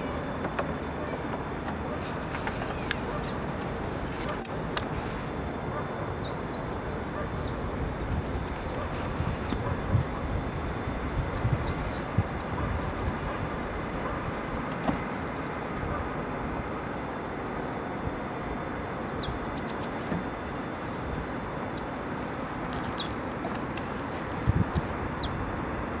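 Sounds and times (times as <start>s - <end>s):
small birds chirping: 0.0s - 14.5s, 18.6s - 25.4s
steady background noise: 0.0s - 26.0s.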